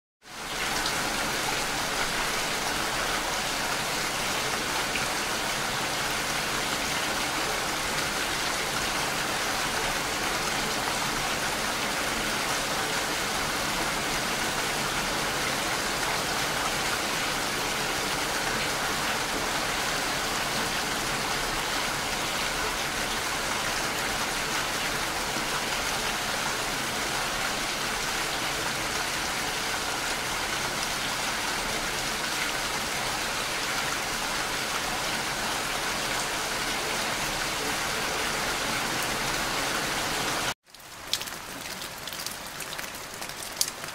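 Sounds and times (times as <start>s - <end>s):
steady rain falling: 0.2s - 43.9s.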